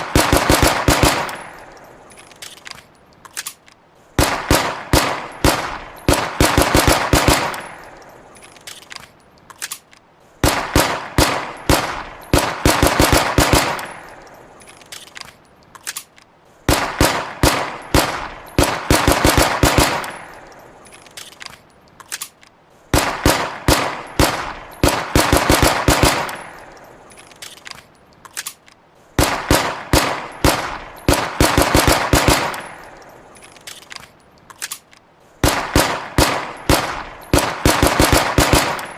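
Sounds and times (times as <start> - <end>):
pistol shots: 0.0 - 2.7, 4.2 - 9.0, 9.7 - 15.2, 16.7 - 21.4, 22.2 - 27.7, 29.2 - 34.0, 34.7 - 38.9.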